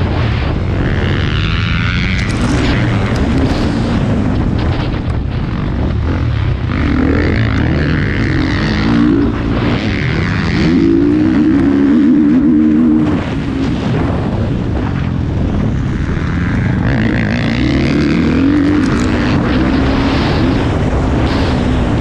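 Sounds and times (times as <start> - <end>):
rush of noise: 0.0 - 22.0
motocross engine revving: 0.1 - 13.9, 15.7 - 22.0.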